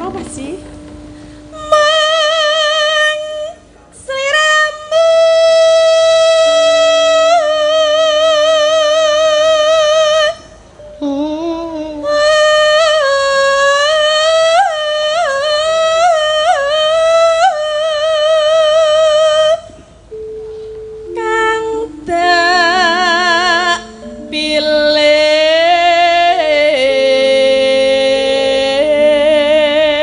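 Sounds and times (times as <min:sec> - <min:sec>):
woman singing long notes: 0:01.5 - 0:30.0.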